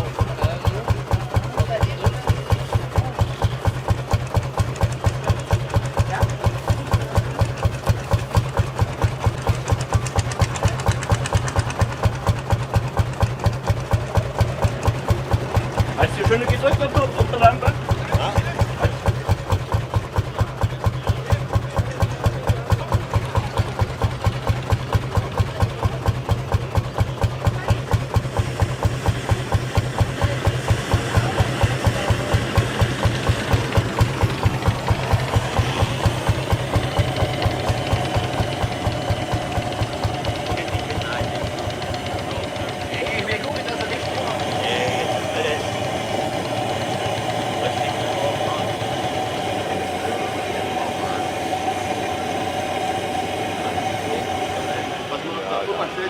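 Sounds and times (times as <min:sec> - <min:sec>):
tractor engine knocking slowly: 0:00.0 - 0:56.0.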